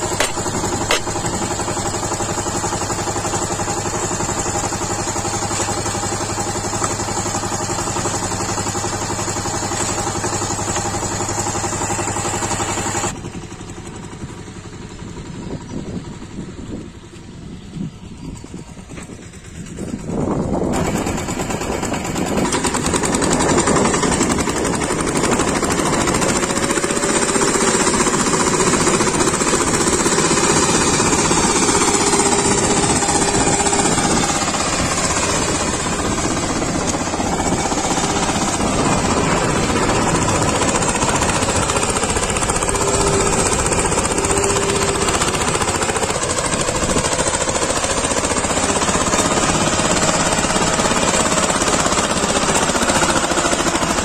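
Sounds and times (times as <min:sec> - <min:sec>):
rotary tines churning soil: 0:00.0 - 0:13.2, 0:19.8 - 0:54.0
diesel tiller engine knocking: 0:00.0 - 0:54.0.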